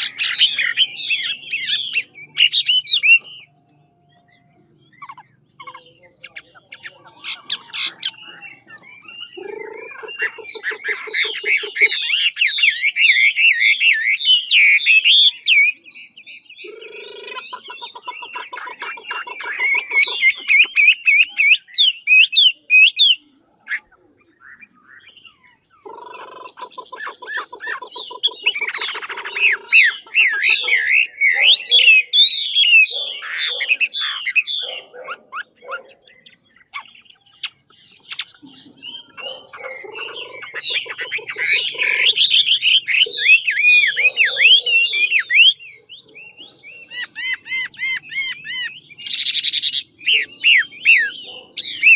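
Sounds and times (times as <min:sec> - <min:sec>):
bird warbling and trilling: 0:00.0 - 0:51.9.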